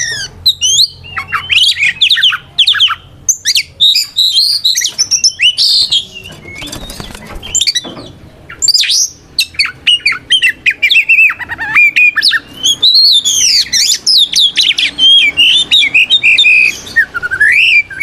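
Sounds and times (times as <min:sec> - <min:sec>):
bird singing whistled notes: 0:00.0 - 0:07.9, 0:08.5 - 0:18.0.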